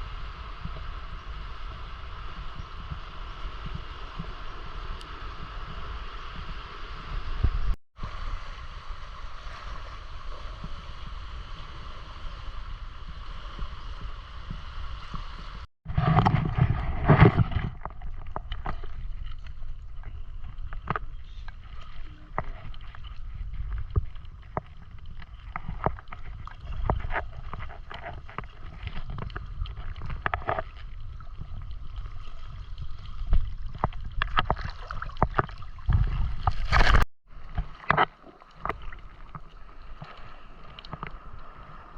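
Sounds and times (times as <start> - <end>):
wind rumble on microphone: 0.0 - 41.9
water sloshing and splashing: 1.7 - 41.9.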